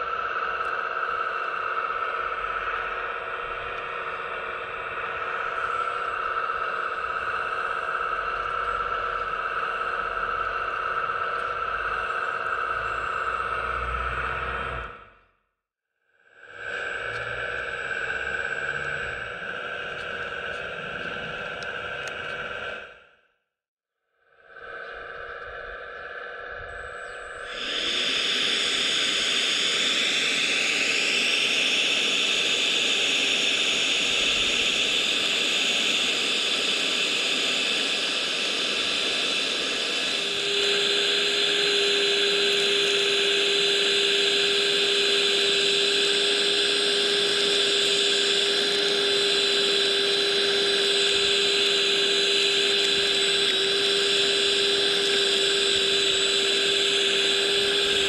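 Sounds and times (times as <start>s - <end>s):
small electric fan whining: 0.0s - 15.2s, 16.3s - 23.0s, 24.3s - 58.0s
low hum: 0.0s - 15.4s, 16.4s - 23.2s, 24.3s - 58.0s.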